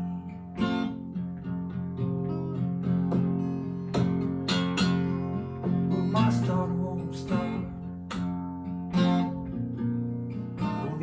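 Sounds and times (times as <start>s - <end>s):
acoustic blues guitar: 0.0s - 11.0s.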